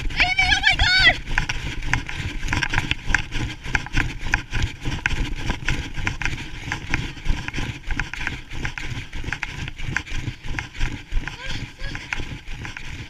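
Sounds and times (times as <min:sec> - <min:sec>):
sled knocks and clatters: 0:00.0 - 0:13.0
sled rumbling over snow: 0:00.0 - 0:13.0.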